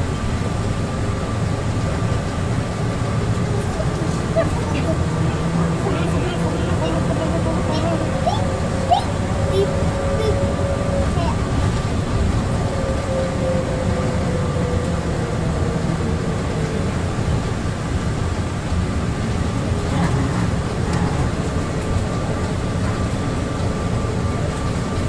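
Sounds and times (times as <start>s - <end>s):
train low rumble: 0.0s - 25.0s.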